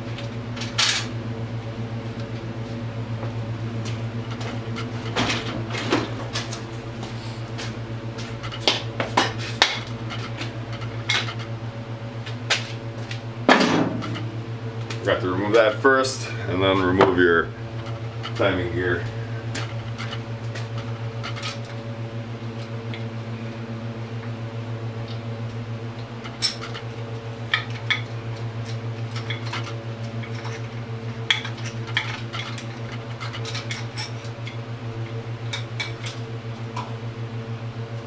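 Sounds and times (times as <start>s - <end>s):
heater fan hum: 0.0s - 38.0s.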